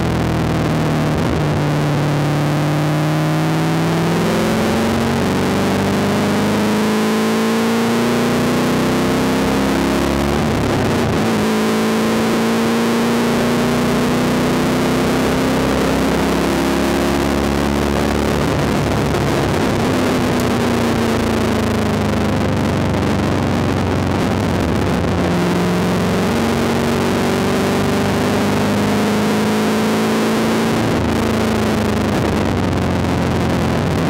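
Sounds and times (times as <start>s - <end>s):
race car engine under load: 3.4s - 34.0s.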